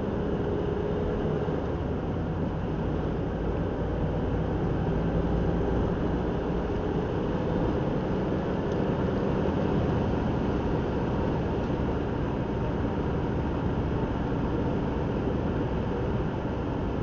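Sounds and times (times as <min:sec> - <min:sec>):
car engine rumble: 0:00.0 - 0:17.0
tyre road noise: 0:00.0 - 0:17.0.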